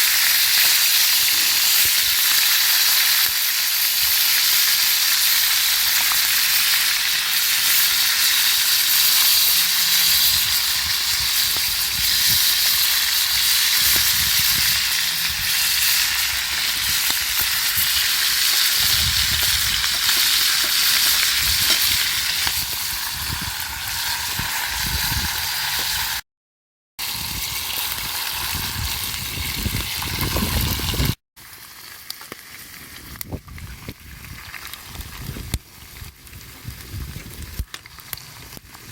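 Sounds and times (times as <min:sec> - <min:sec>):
fire pops and crackles: 0:00.0 - 0:26.0, 0:27.0 - 0:38.9
food sizzling in a pan: 0:00.0 - 0:26.2, 0:27.0 - 0:38.9.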